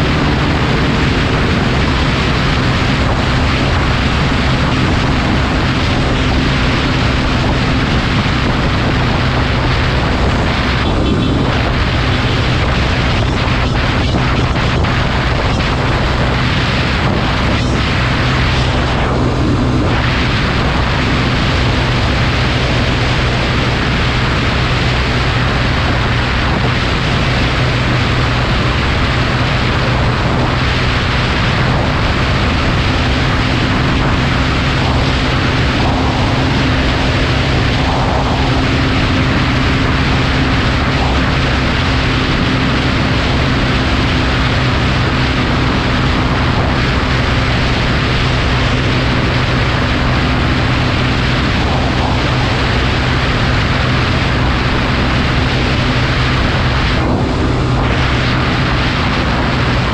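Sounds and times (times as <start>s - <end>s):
motorcycle engine droning: 0.0s - 59.9s
wind rush on microphone: 0.0s - 59.9s.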